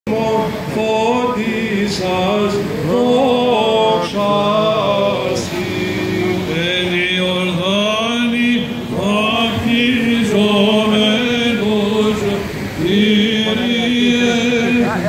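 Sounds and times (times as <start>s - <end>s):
man chanting a hymn: 0.1s - 15.0s.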